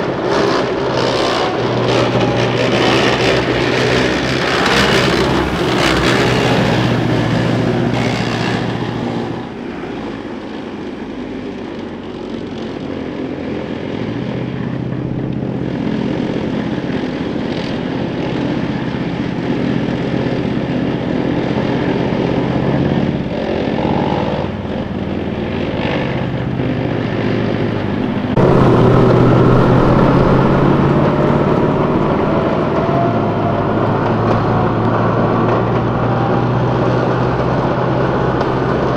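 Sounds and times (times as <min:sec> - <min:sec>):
diesel engine drone: 0:00.0 - 0:38.9
vehicle track noise: 0:00.0 - 0:38.9.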